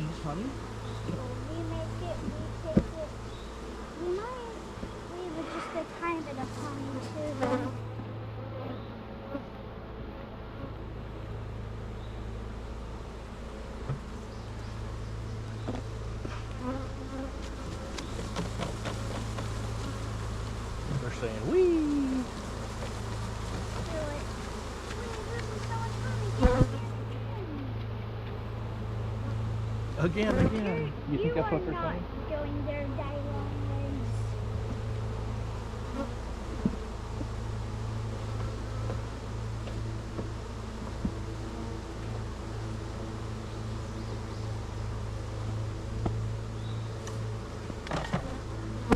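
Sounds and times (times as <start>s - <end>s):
honeybees buzzing: 0.0s - 48.9s.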